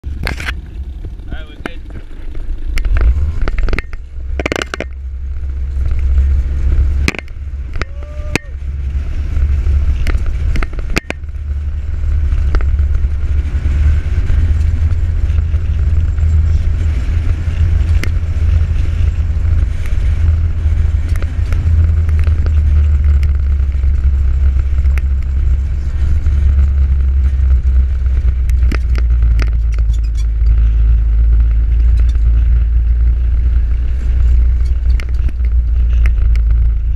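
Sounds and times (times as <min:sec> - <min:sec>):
atv engine rumble: 0:00.0 - 0:36.9.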